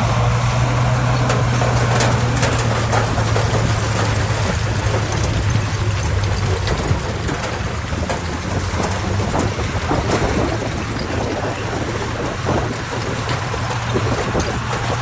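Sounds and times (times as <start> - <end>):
clanks and rattles: 0.0 - 15.0
diesel machinery engine drone: 0.0 - 15.0.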